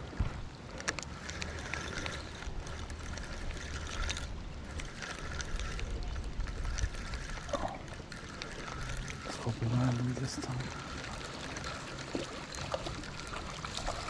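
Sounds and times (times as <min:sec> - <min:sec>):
river water: 0:00.0 - 0:14.0
wind rumbling on microphone: 0:00.0 - 0:14.0
fishing reel cranking: 0:00.7 - 0:14.0.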